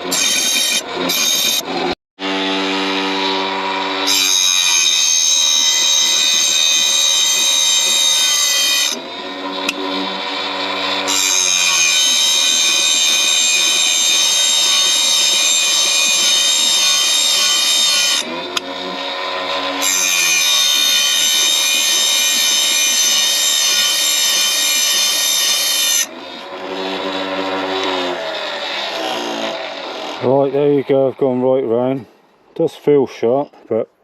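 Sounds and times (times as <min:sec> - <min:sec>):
grinding wheel on saw blade: 0:00.0 - 0:31.2.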